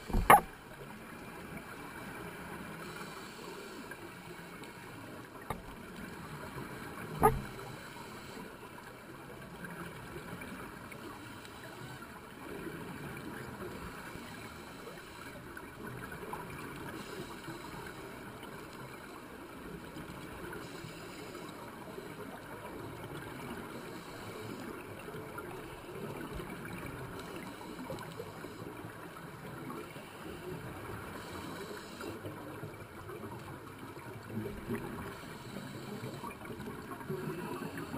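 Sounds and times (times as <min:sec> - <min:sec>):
underwater hiss and rumble: 0:00.0 - 0:37.9.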